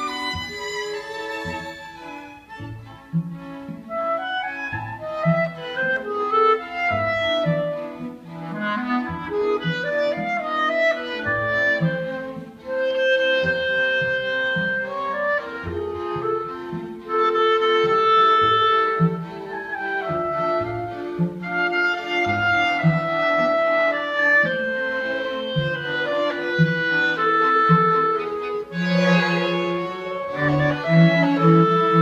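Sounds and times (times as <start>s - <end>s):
clarinet: 0.0s - 32.0s
violins: 0.0s - 32.0s.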